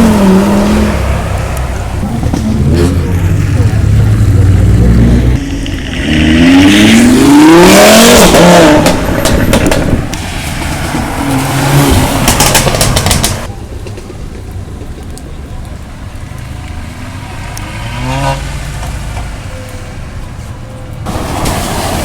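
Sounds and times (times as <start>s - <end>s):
car engine revving: 0.0s - 15.1s, 15.7s - 20.1s
rushing noise with crackles: 0.0s - 22.0s.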